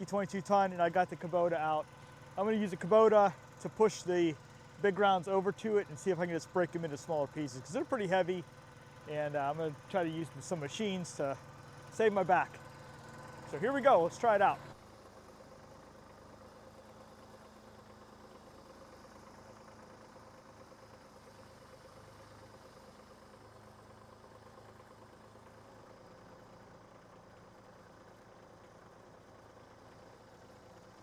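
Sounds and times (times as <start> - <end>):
faint engine idling hum: 0.0 - 31.0.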